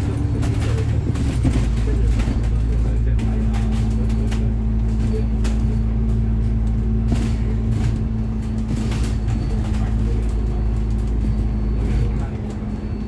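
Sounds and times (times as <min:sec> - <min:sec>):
bus engine and road drone: 0:00.0 - 0:13.0
constant hum: 0:00.0 - 0:13.0.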